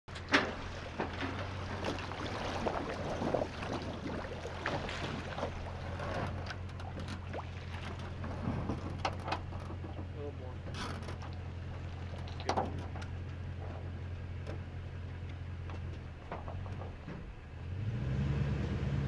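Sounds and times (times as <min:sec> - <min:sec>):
knocks and clunks of metal boat: 0:00.1 - 0:17.5
water sloshing: 0:00.1 - 0:17.5.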